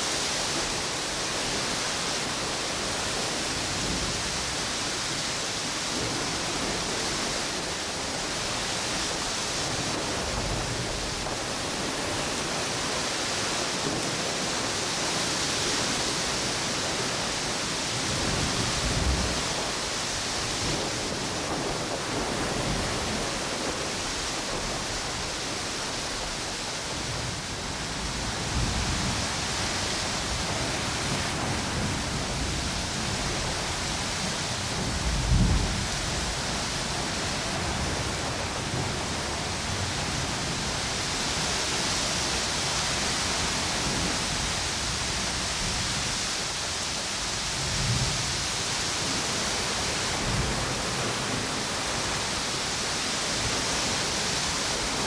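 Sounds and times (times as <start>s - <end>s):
ocean surf: 0.0s - 55.0s
wind through palm trees: 0.0s - 55.0s.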